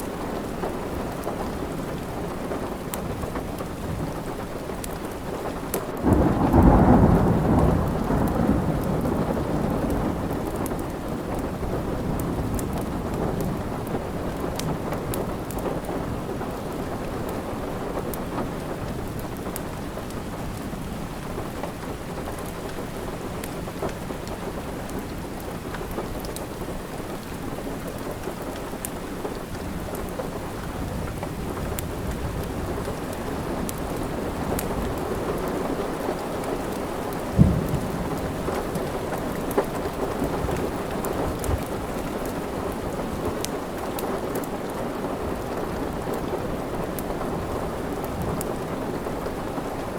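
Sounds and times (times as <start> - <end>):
wood fire crackling: 0.0 - 6.7, 9.7 - 49.9
steady rain: 0.0 - 49.9.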